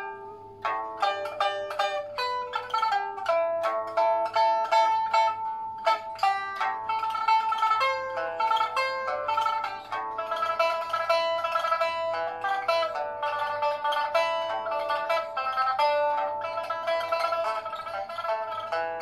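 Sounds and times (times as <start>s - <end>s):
plucked lute notes: 0.0s - 19.0s.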